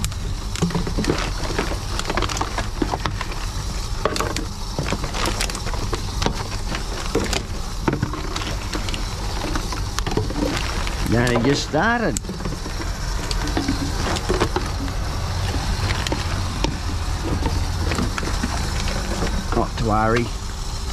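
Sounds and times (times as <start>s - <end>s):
plastic bottles crinkling: 0.0s - 20.2s
low motor hum: 0.0s - 20.9s.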